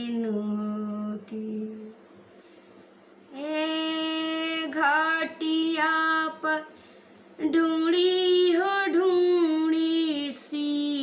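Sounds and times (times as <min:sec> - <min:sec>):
woman singing unaccompanied: 0:00.0 - 0:02.0, 0:03.3 - 0:06.8, 0:07.4 - 0:11.0.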